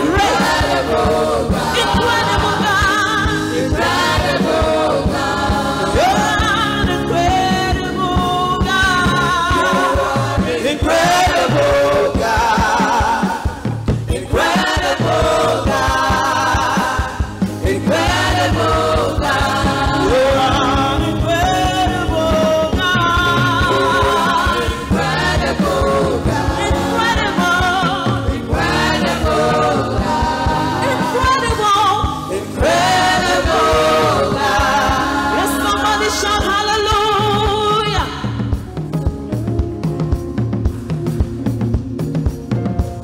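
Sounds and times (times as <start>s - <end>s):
singers with vibrato: 0.0s - 38.5s
drum kit steady beat: 0.0s - 43.0s.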